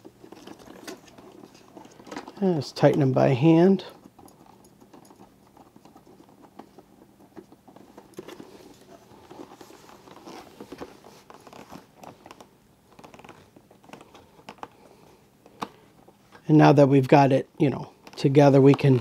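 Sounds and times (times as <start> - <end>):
rustling: 0.0 - 3.1, 3.8 - 16.5.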